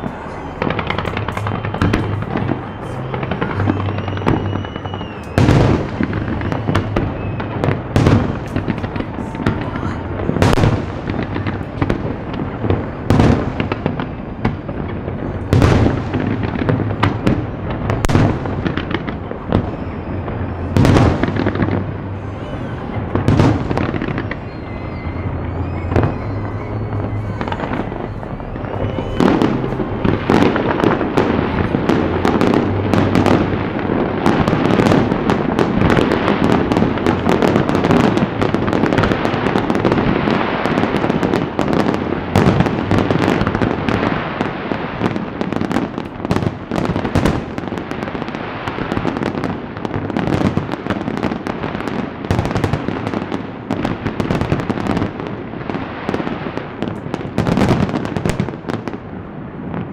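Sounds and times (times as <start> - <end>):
firework shells bursting with echo: 0.0 - 55.2
firework cracks and crackle: 0.0 - 59.9.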